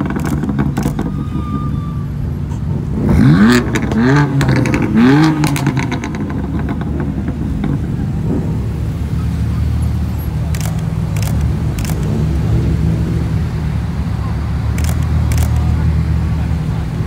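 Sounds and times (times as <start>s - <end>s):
car engine revving: 0.0s - 1.3s, 2.7s - 17.0s.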